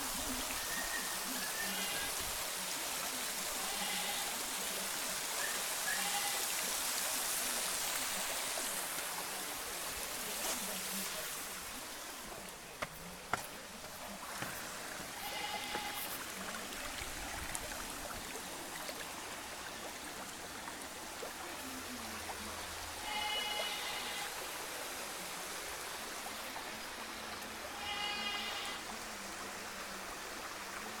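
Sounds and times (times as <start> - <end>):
waterfall pouring into pool: 0.0 - 31.0.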